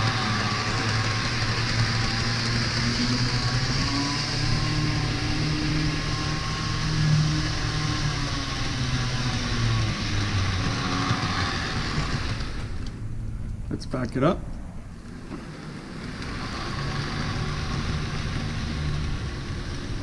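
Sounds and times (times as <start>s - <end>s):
model train motor whirring: 0.0s - 13.2s, 14.9s - 20.0s.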